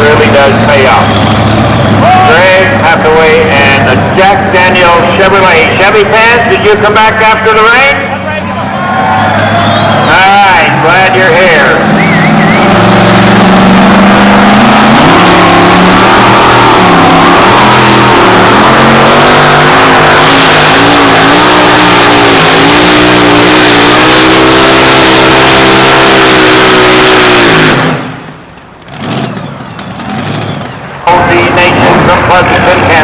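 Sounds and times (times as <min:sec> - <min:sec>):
truck engine at full throttle: 0:00.0 - 0:33.0.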